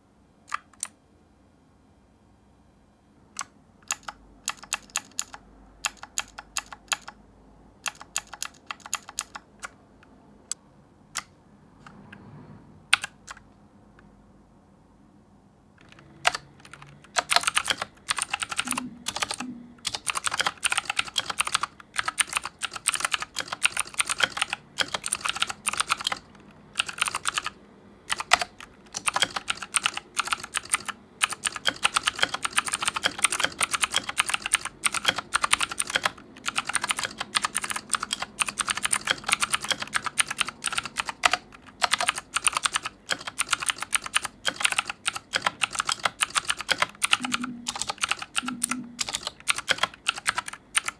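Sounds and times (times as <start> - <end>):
mechanical keyboard typing: 0.5 - 1.0, 3.4 - 7.2, 7.8 - 9.8, 11.2 - 12.0, 12.9 - 13.5, 15.8 - 50.9.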